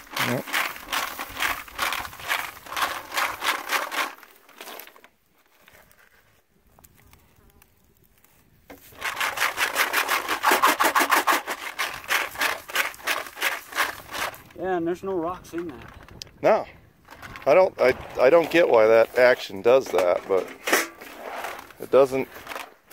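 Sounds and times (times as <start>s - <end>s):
gravel rattling in shaken metal box: 0.0s - 6.2s, 8.7s - 22.9s.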